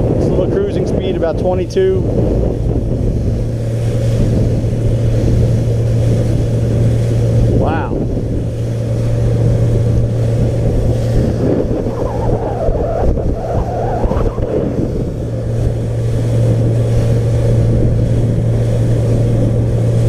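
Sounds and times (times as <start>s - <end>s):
outboard motor droning: 0.0s - 20.0s
wind and water rushing: 0.0s - 20.0s.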